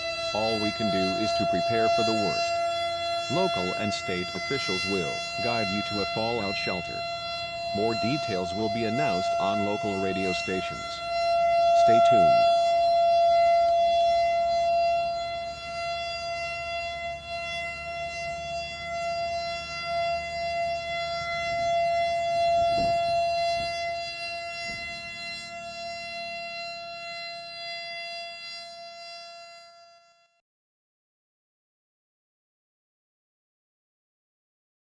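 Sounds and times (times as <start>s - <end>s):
siren steady tone: 0.0s - 30.4s.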